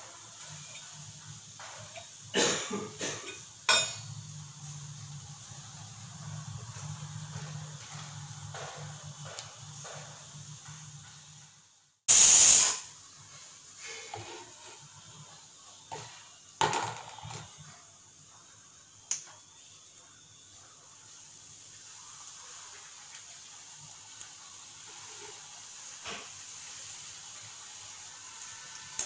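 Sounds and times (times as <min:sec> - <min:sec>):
gas burner hissing: 0:00.0 - 0:29.0.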